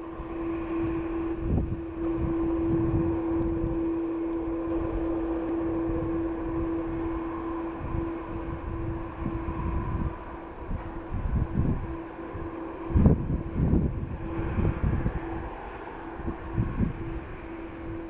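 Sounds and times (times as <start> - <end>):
jet engines whining at idle: 0.0 - 18.0
low rumble: 0.0 - 18.0.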